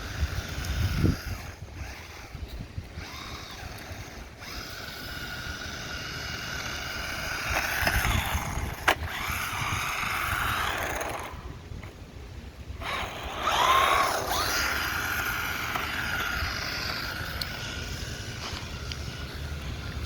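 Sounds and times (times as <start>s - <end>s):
electric motor whining: 0.0s - 12.0s, 12.7s - 20.0s
wind rumbling on microphone: 0.0s - 20.0s.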